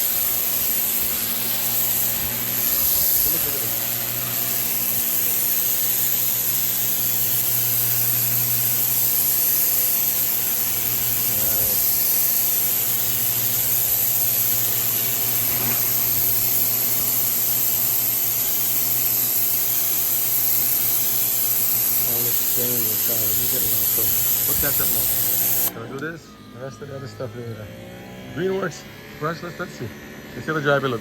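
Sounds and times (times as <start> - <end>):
water jet hissing: 0.0 - 25.8
pressure washer motor hum: 0.0 - 31.0.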